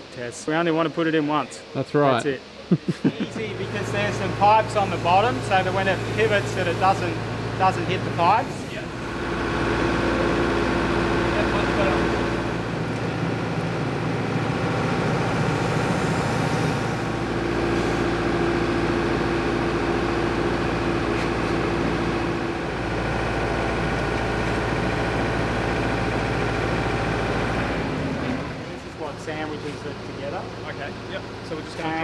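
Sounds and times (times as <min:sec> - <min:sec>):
forklift engine running: 0:03.2 - 0:32.0.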